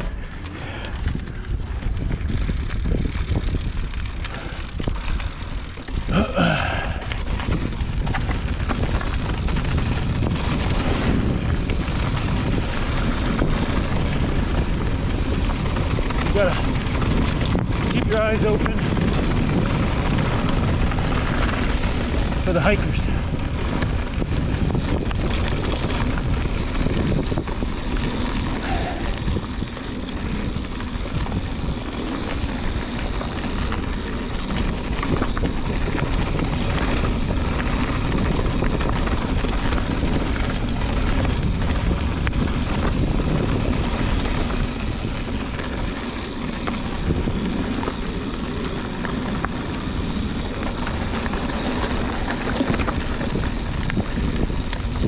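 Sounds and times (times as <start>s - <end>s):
bike clicks and rattles: 0.0s - 55.0s
tyres rolling over gravel: 0.0s - 55.0s
wind rushing over microphone: 0.0s - 55.0s.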